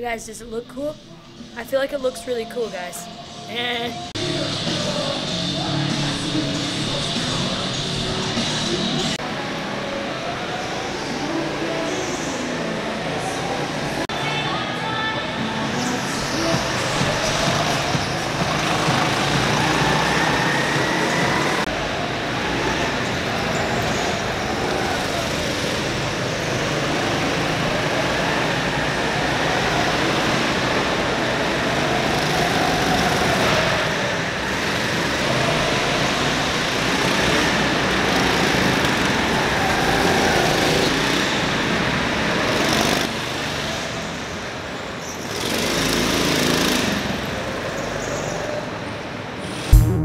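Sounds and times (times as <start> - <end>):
go-kart engines racing: 2.4 - 49.6.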